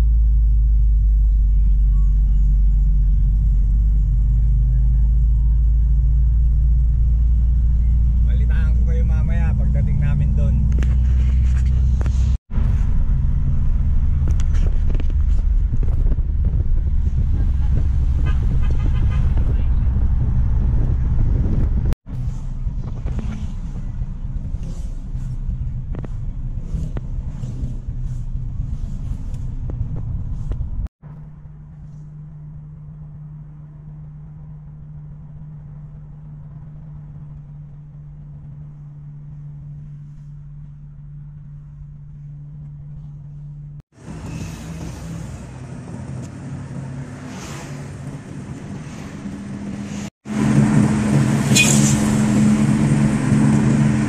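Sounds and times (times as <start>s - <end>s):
car engine hum: 0.0s - 54.0s
road noise inside car: 0.0s - 54.0s.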